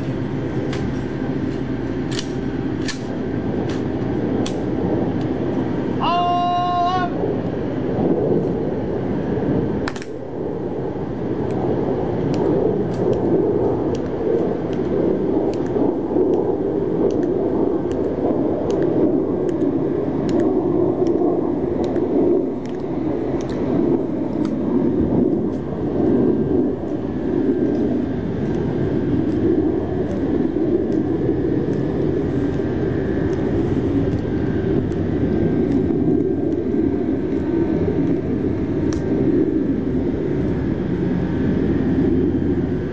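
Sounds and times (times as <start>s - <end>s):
low rumble: 0.0s - 42.9s.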